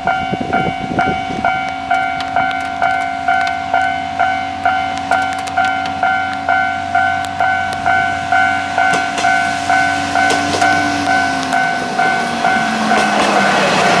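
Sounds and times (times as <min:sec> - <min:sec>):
diesel railcar passing: 0:00.0 - 0:14.0
level-crossing warning bell: 0:00.0 - 0:14.0
train wheel clicks: 0:00.6 - 0:14.0.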